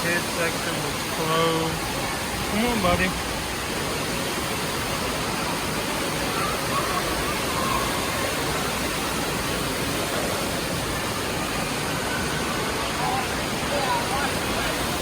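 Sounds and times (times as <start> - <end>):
faint voices: 0.0 - 15.0
water rushing: 0.0 - 15.0.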